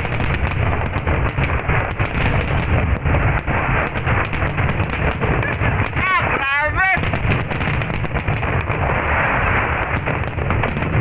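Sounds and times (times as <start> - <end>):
continuous rumble: 0.0 - 11.0
fireworks bangs: 0.0 - 11.0.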